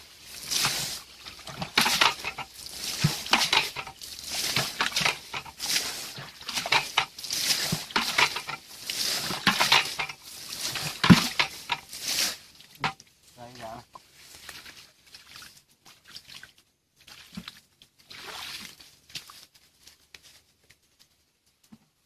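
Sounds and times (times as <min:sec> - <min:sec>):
bucket scooping and splashing water: 0:00.0 - 0:13.0, 0:13.6 - 0:19.5.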